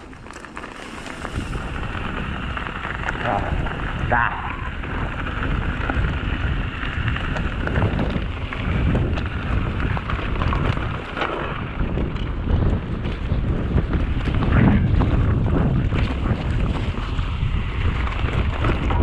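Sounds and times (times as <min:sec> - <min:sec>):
bike rattling clicks: 0:00.0 - 0:04.1, 0:04.8 - 0:19.0
tyres rolling over dirt: 0:00.0 - 0:19.0
wind on microphone: 0:00.0 - 0:19.0.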